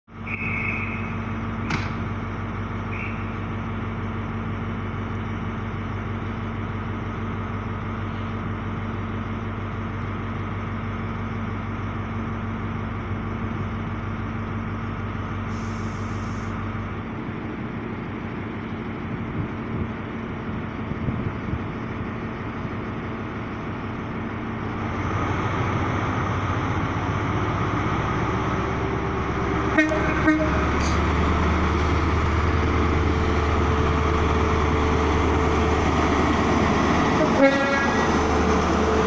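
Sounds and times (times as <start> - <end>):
diesel engine idling: 0.3 - 39.0.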